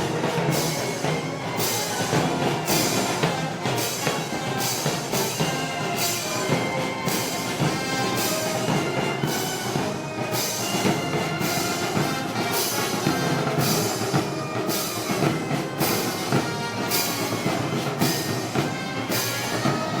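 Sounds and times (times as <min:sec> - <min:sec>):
wind band playing: 0:00.0 - 0:20.0.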